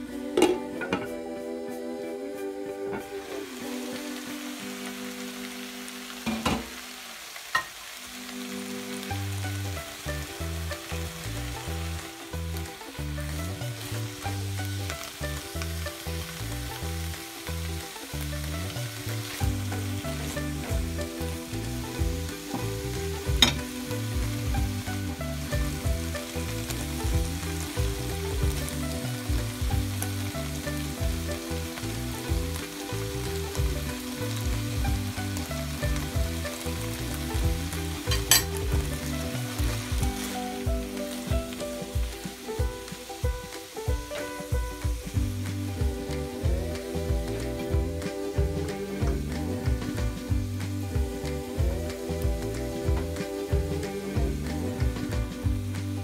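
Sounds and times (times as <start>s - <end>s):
vegetables sizzling in a frying pan: 0.0s - 56.0s.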